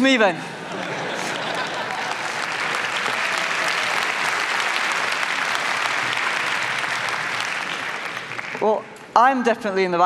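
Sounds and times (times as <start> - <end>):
large audience applauding: 0.6 - 8.8.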